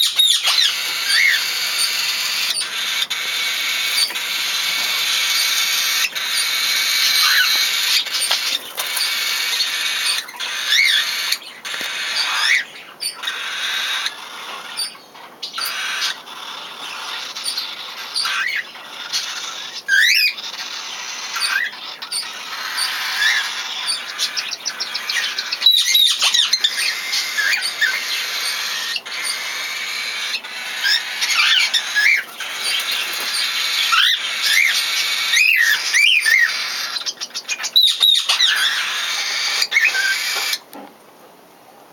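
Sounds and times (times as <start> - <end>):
cockatiels chirping: 0.0 - 40.7.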